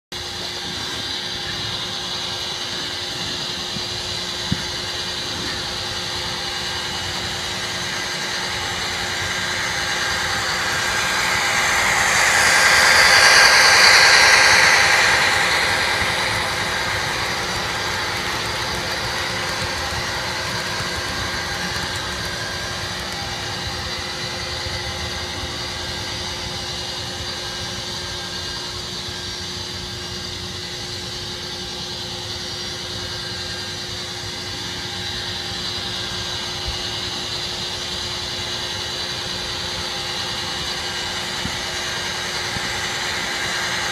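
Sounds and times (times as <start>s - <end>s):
model train diesel engine loop: 0.1s - 43.9s.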